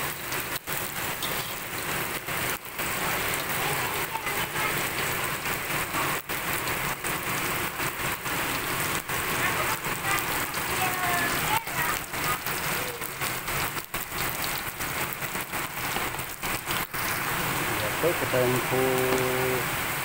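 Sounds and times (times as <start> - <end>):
spice paste sizzling in hot oil: 0.0 - 6.4, 7.0 - 19.6.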